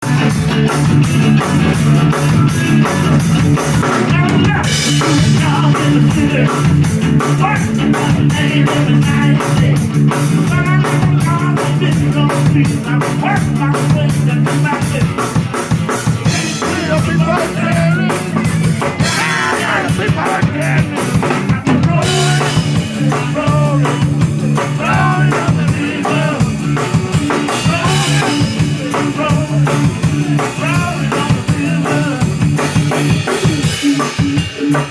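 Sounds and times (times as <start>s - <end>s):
drum kit beat: 0.0s - 34.9s
live blues band playing: 0.0s - 34.9s.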